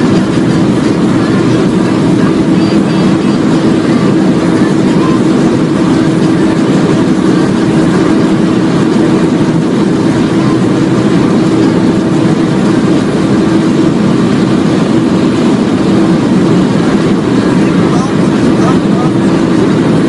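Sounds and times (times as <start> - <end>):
car engine at high revs: 0.0 - 20.0
wind and road noise: 0.0 - 20.0.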